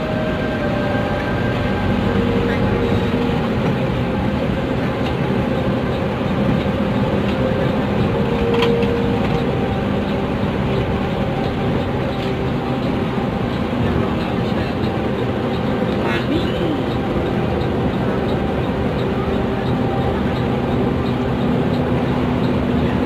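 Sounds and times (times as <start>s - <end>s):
bus engine drone: 0.0s - 23.0s
tyre and road noise: 0.0s - 23.0s.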